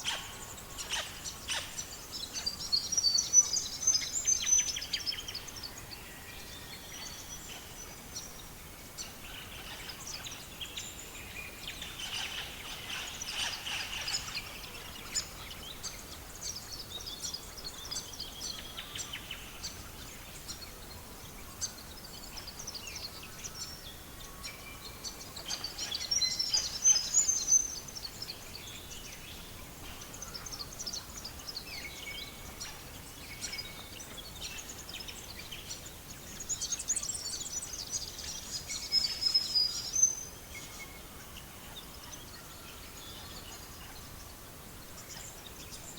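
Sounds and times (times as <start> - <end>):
faint background hiss: 0.0 - 45.9
small birds chirping: 0.0 - 45.9.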